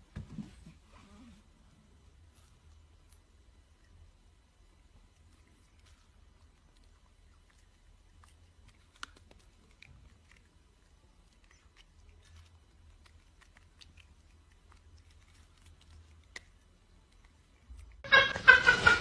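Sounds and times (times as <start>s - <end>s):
cat chewing food: 2.1s - 18.0s.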